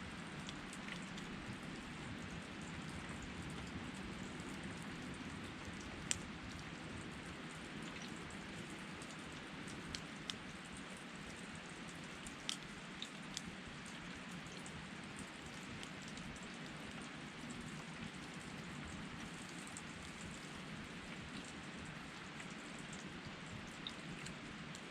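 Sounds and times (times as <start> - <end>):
campfire crackling and popping: 0.0 - 24.9.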